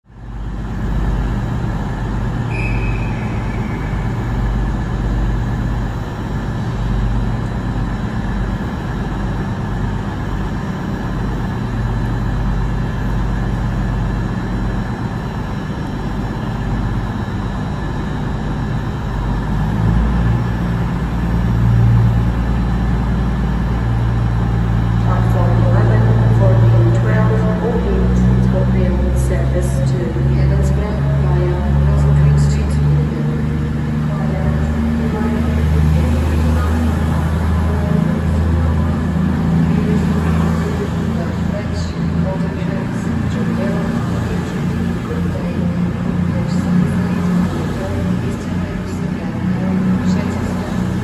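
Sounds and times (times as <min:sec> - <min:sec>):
diesel train engines idling: 0:00.0 - 0:51.0.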